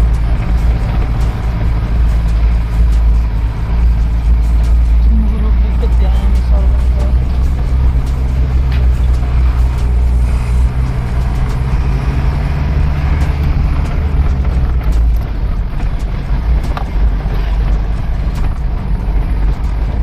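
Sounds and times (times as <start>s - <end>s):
diesel truck engine running: 0.0s - 20.0s
road noise: 0.0s - 20.0s.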